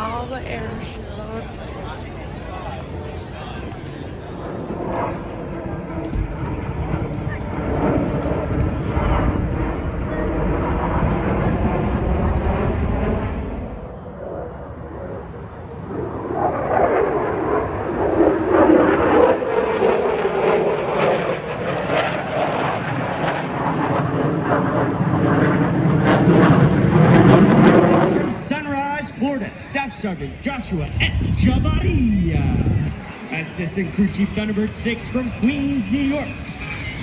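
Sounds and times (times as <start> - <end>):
military jet flying past: 0.0 - 37.0.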